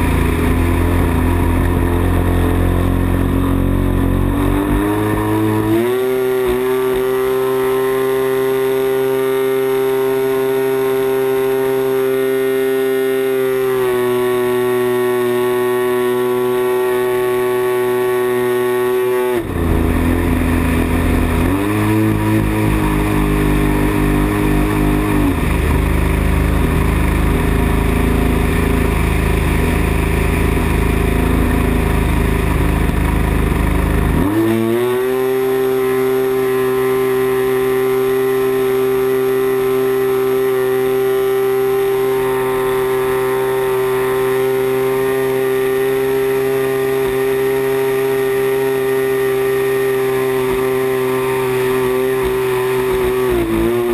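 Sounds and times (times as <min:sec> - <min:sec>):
model plane engine droning: 0:00.0 - 0:53.9.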